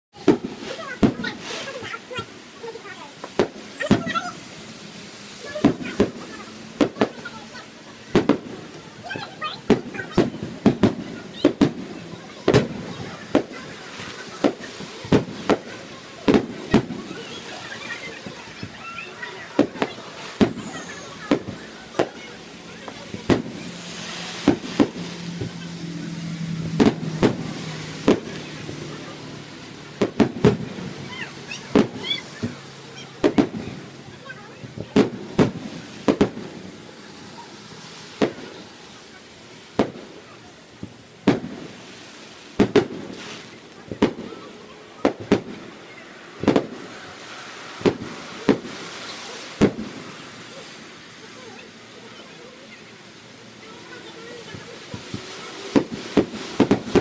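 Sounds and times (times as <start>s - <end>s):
fireworks bursting with sharp bangs: 0.1s - 57.0s.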